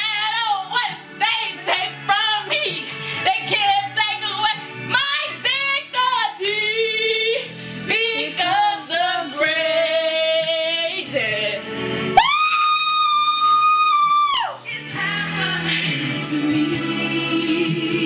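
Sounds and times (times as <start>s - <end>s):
woman singing a ballad: 0.0s - 11.7s, 12.5s - 18.0s
backing music: 0.0s - 18.0s.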